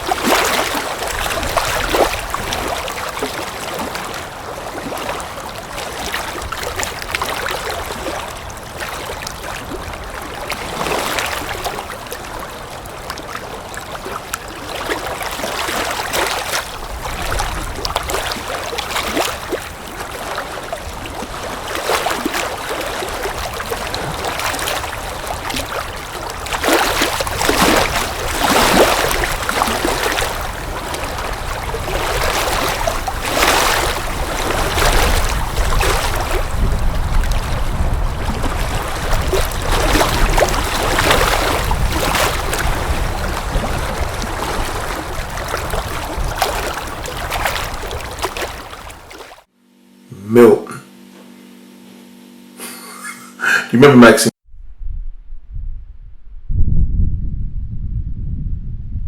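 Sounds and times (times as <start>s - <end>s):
rushing water: 0.0s - 49.5s.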